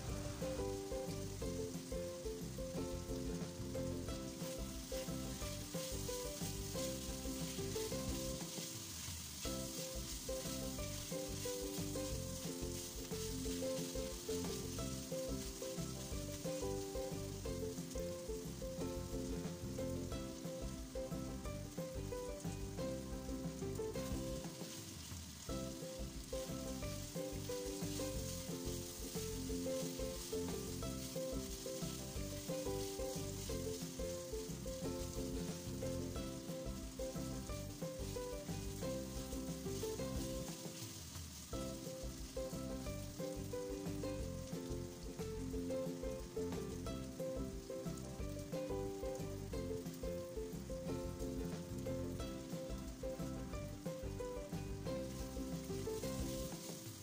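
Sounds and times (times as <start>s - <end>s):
background tune: 0.0s - 57.0s
chicken sizzling in a wok: 0.0s - 57.0s
wooden spatula stirring: 0.0s - 57.0s.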